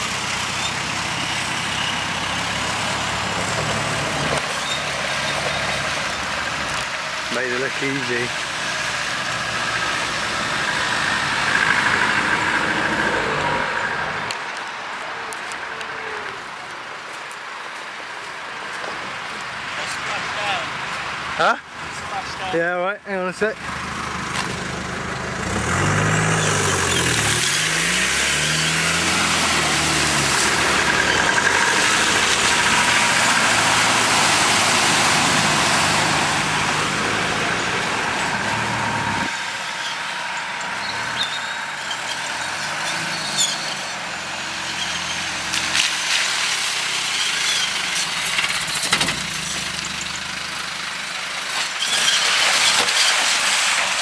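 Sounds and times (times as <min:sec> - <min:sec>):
car engine revving: 0:00.0 - 0:14.3, 0:23.6 - 0:54.0.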